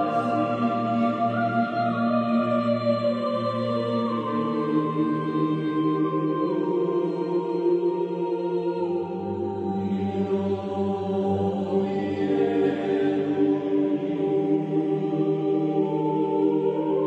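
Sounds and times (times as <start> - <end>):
chant-like voices: 0.0 - 17.0
low drone: 0.0 - 17.0.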